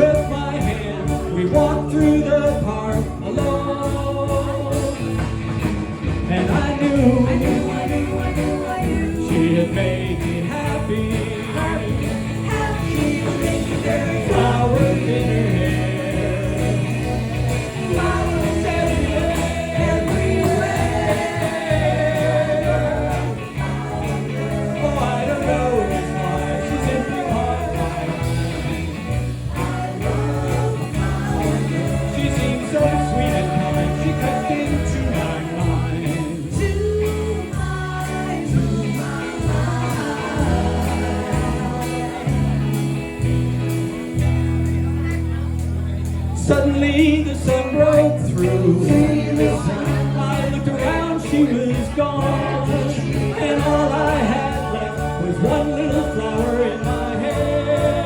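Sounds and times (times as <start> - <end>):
bass line: 0.0 - 58.0
live band playing pop song: 0.0 - 58.0
singing voices: 0.0 - 58.0.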